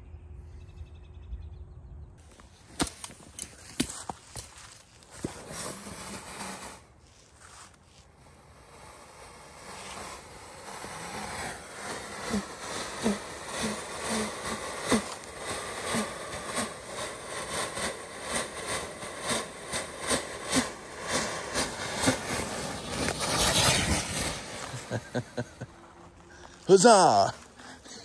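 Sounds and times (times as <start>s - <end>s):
sharp pops and sputters: 2.3s - 28.0s
smoke grenade hissing: 2.6s - 28.0s.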